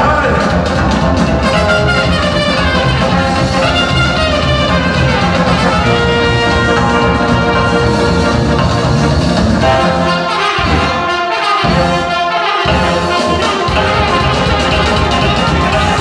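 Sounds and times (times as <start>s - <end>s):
live band music: 0.0s - 16.0s
trombone playing melody: 0.6s - 16.0s.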